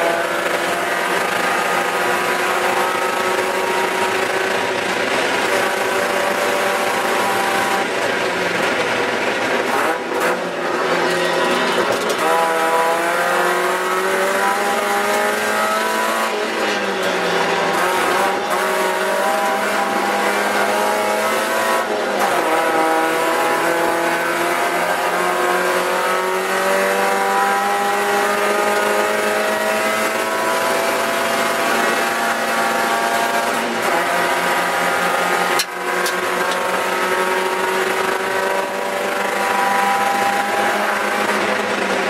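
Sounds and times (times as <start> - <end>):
race car engine revving high: 0.0 - 42.0.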